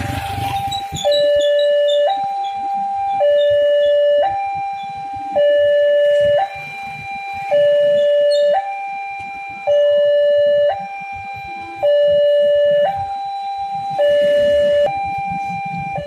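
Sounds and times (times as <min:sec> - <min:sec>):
two-tone crossing alarm: 0:00.0 - 0:16.0.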